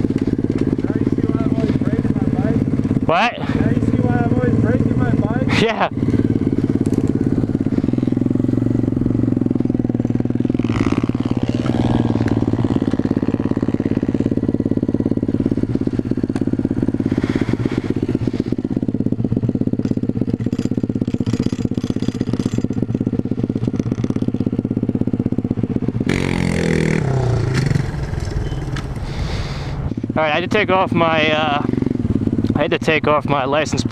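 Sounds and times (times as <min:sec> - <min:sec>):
small motorbike engine running: 0:00.0 - 0:33.9.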